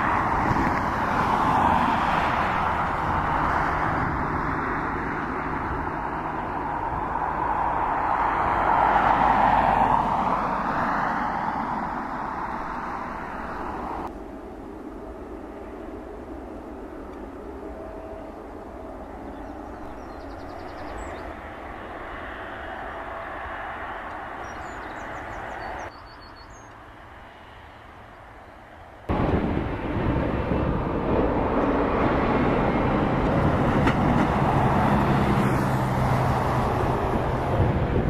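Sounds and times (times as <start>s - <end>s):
jet engines roaring: 0.0s - 25.9s, 26.7s - 38.0s.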